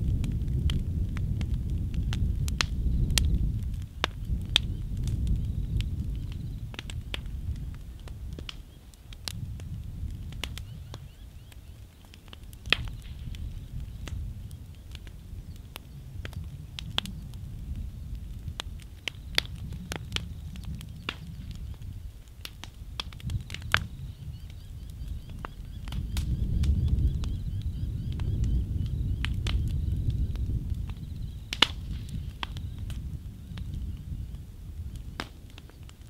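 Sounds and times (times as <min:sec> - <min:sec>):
fire crackling and popping: 0:00.0 - 0:36.0.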